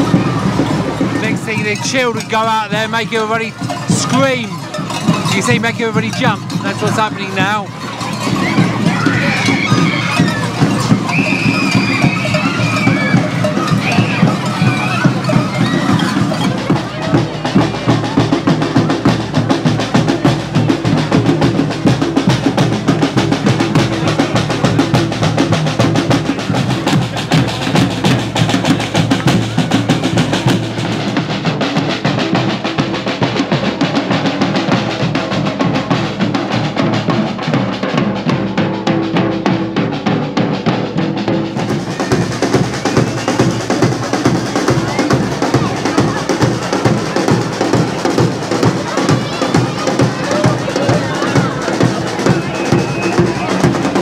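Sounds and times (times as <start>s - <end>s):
street drum band playing: 0.0s - 54.0s.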